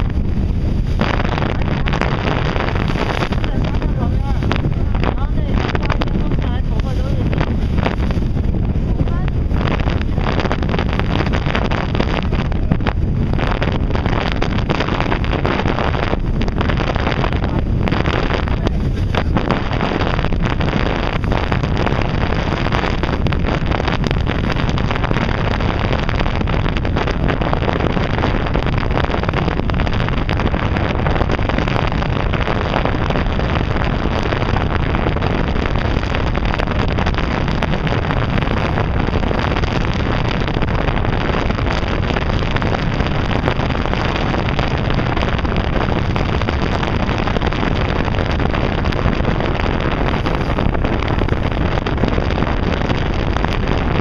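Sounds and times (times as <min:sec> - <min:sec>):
boat engine: 0:00.0 - 0:54.0
water: 0:00.0 - 0:54.0
wind rushing over microphone: 0:00.0 - 0:54.0.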